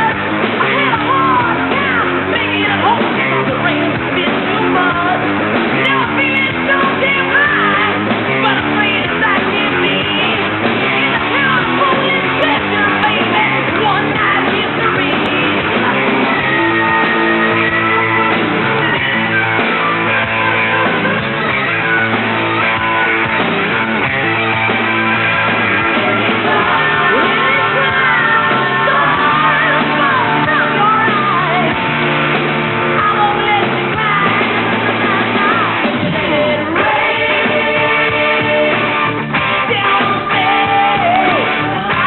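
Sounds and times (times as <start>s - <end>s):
hard rock song: 0.0s - 42.0s.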